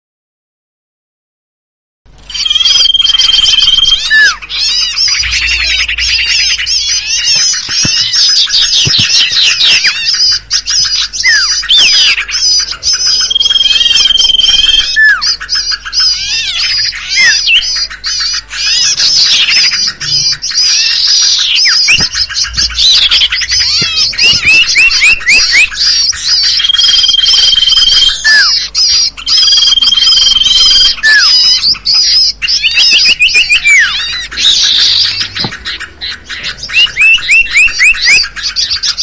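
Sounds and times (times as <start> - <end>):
songbirds chattering and chirping: 2.1 - 39.0.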